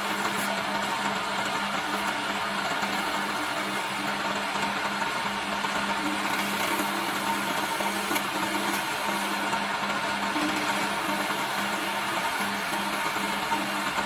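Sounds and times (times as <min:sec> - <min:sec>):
chisel scraping spinning wood: 0:00.0 - 0:14.0
lathe motor hum: 0:00.0 - 0:14.0.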